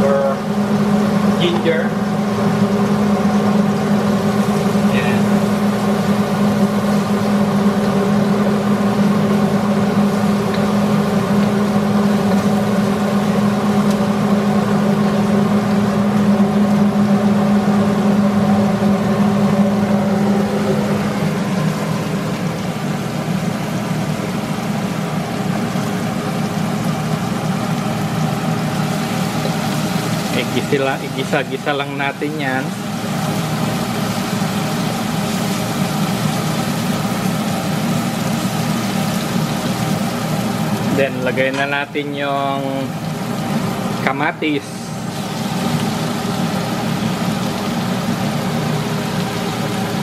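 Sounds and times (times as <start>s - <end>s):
food sizzling in oil: 0.0s - 50.0s
range hood fan droning hum: 0.0s - 50.0s.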